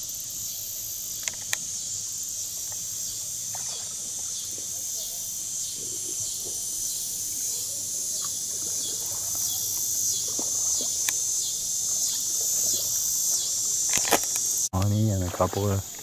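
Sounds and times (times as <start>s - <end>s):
insects chorus: 0.0s - 16.0s
water splashes and drips: 2.6s - 16.0s.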